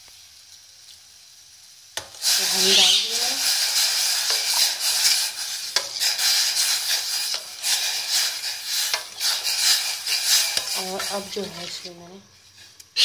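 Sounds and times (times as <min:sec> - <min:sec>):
hiss from hot pot: 0:00.0 - 0:13.0
spoon stirring pot: 0:02.0 - 0:13.0.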